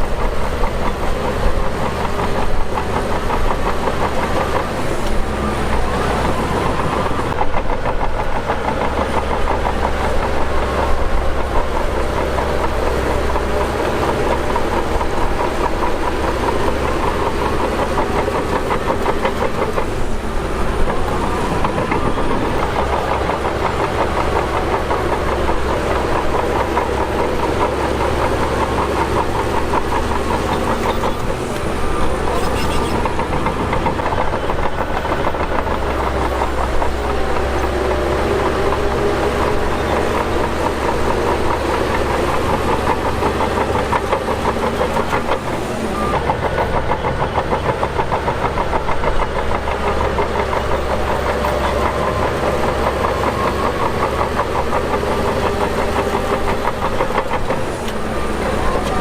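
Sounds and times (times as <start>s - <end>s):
bulldozer engine under load: 0.0s - 59.0s.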